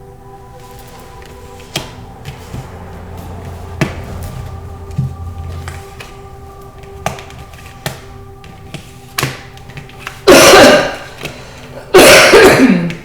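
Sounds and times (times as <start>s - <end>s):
soft background music: 0.0s - 13.0s
sustained drone: 0.0s - 13.0s
loud rushing noise bursts: 0.1s - 11.6s.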